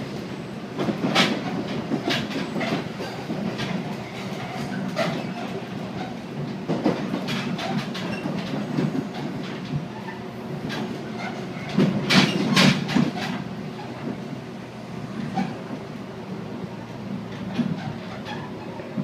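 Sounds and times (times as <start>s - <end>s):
train motors humming: 0.0s - 19.0s
rail-joint clatter: 0.1s - 14.4s, 15.1s - 15.9s, 16.8s - 19.0s.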